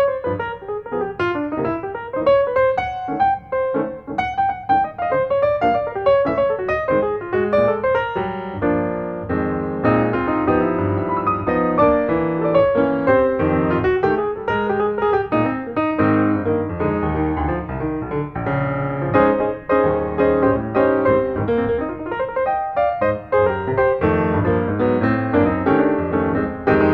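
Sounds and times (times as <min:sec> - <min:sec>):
piano music: 0:00.0 - 0:26.9.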